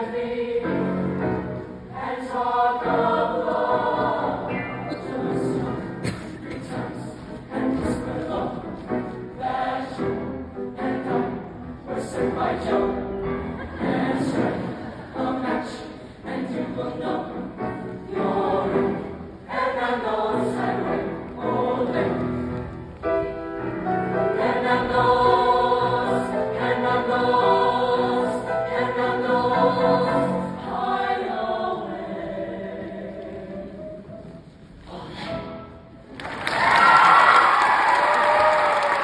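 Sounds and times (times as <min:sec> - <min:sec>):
mixed choir singing: 0:00.0 - 0:35.6.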